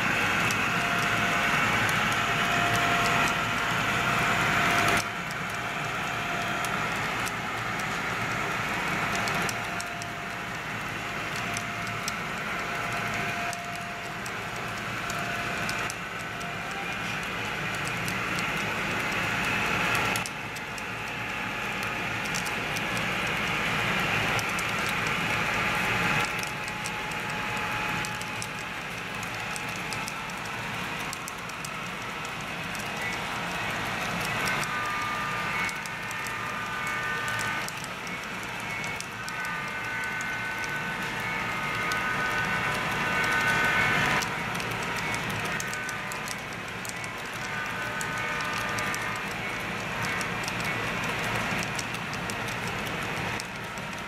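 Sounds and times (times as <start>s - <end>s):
faint steady whine: 0.0s - 54.0s.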